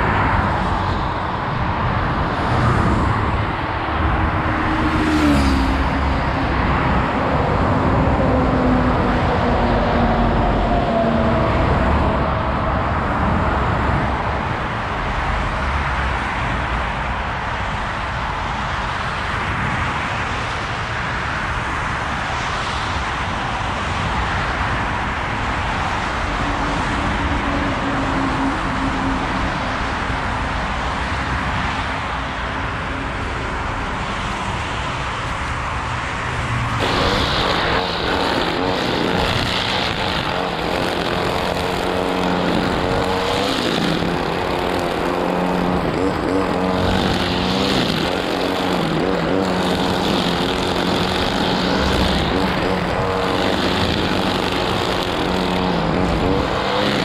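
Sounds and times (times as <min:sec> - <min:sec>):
motorway traffic rushing past: 0:00.0 - 0:57.0
passing vehicle engine drone: 0:00.0 - 0:57.0.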